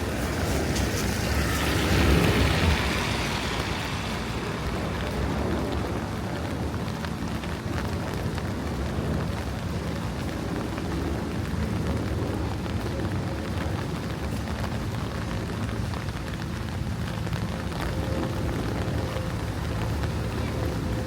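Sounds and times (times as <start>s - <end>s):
low rumble: 0.0s - 21.0s
rain falling: 0.0s - 21.0s.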